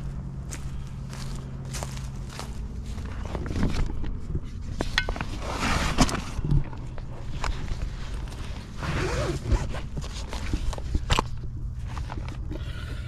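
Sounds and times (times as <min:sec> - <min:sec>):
canvas bag rustling: 0:01.1 - 0:12.5.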